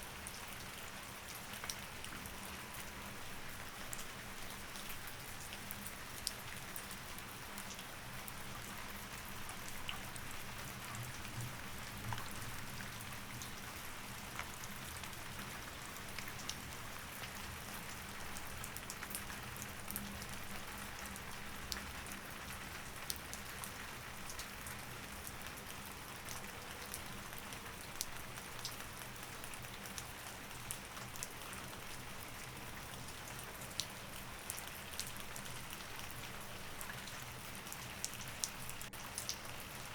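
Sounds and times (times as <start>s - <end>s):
rain falling: 0.2s - 39.9s.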